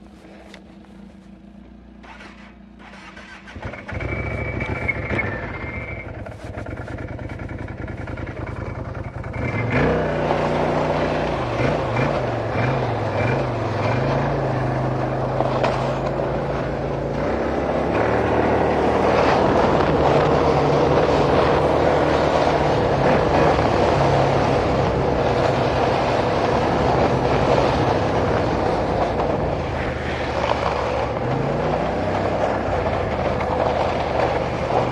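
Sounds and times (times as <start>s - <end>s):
vehicle engine revving: 0.0s - 34.9s.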